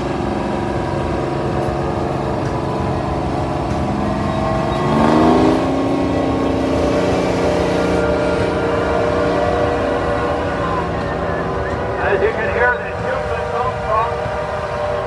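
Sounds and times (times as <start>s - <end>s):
old engine revving: 0.0s - 15.0s.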